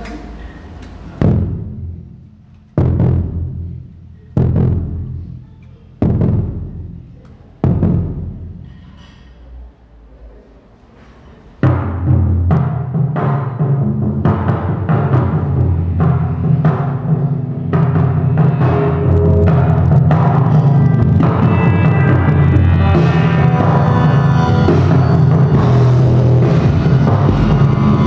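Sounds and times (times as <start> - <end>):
deep drum strikes: 1.2 - 5.4, 6.0 - 8.7, 11.6 - 28.0.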